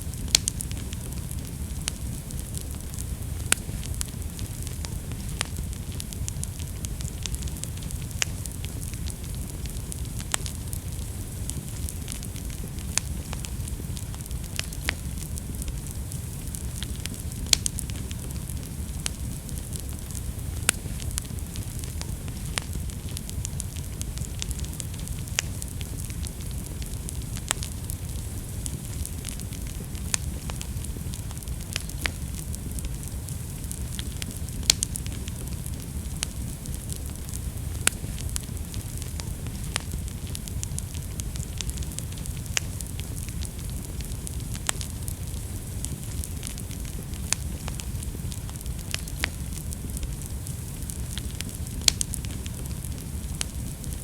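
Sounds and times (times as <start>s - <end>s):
burning logs crackling and popping: 0.0s - 54.0s
flames rumbling and hissing: 0.0s - 54.0s.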